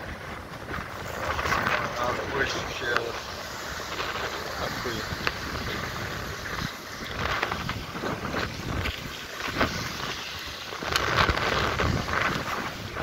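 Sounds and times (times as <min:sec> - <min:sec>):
light surf washing ashore: 0:00.0 - 0:13.0
wind rumbling on microphone: 0:00.0 - 0:13.0.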